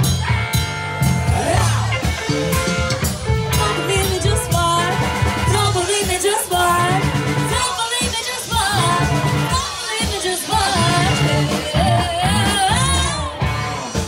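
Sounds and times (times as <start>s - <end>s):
bass guitar: 0.0s - 14.0s
drum kit: 0.0s - 14.0s
electric guitar: 0.0s - 14.0s
person singing: 1.2s - 14.0s.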